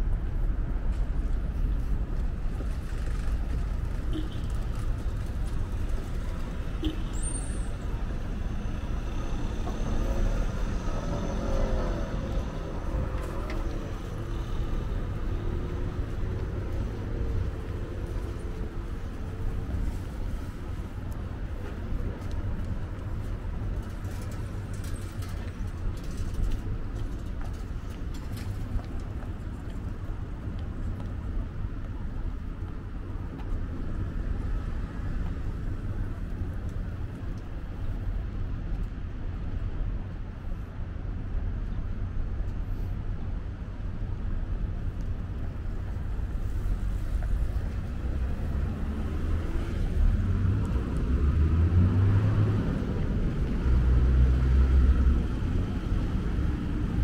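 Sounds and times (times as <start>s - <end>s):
traffic rumble: 0.0s - 57.0s
vehicle engine: 0.4s - 37.8s, 44.0s - 57.0s.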